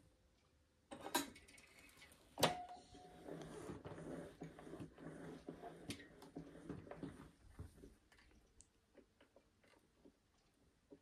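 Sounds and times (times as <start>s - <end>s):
faint low hum with crackling: 0.0s - 11.0s.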